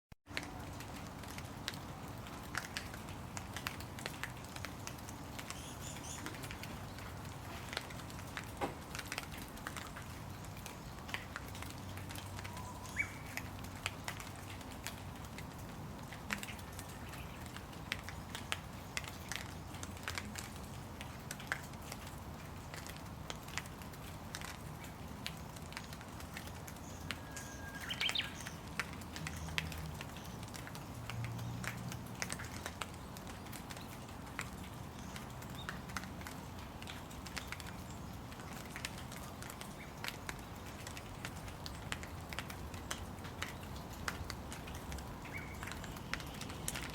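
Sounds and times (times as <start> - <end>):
rain pattering: 0.2 - 46.9.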